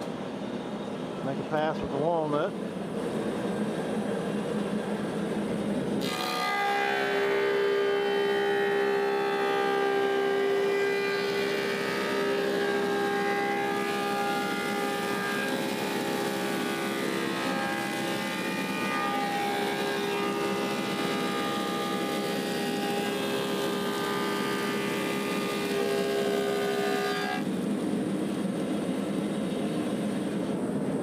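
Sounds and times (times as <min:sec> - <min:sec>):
wood planer whining: 0:02.9 - 0:30.6.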